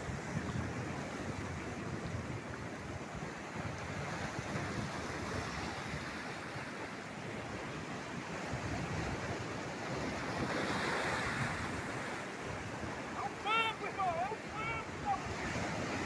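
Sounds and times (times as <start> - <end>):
ocean surf on rocky shore: 0.0 - 16.0.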